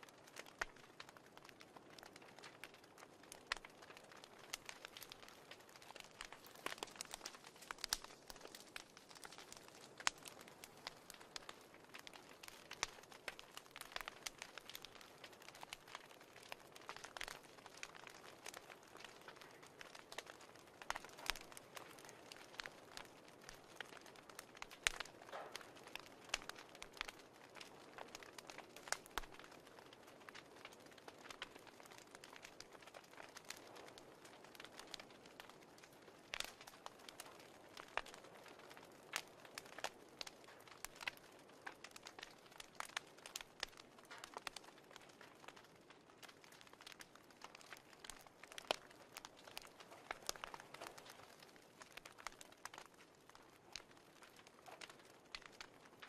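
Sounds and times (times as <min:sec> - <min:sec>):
fireplace crackling: 0:00.0 - 0:56.0.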